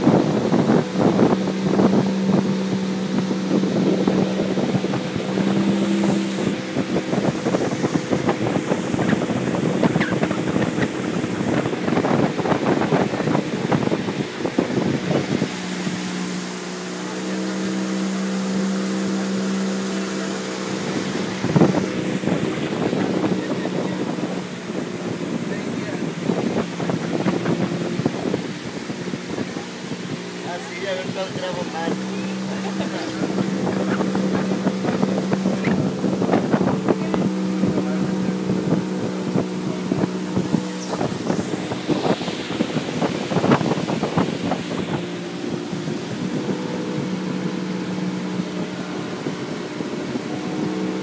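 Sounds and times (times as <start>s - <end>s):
outboard motor running: 0.0s - 51.0s
wind buffeting microphone: 0.0s - 51.0s.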